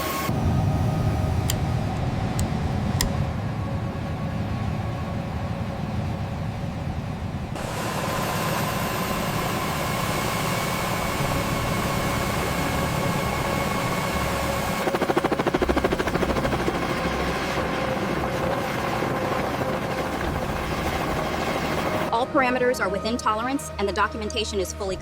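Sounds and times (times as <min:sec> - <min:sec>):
rotor blades pulsing: 0:00.0 - 0:24.9
helicopter engines whining: 0:00.0 - 0:25.0.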